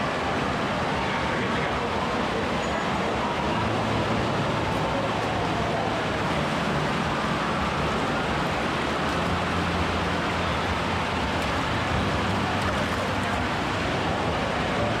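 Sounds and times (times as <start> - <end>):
water rushing in echoing hall: 0.0 - 15.0.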